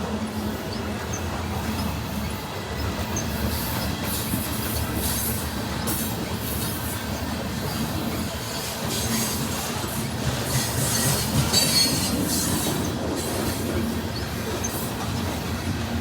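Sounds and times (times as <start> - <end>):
train wheels on track: 0.0 - 16.0
high wheel squeals: 0.5 - 15.1.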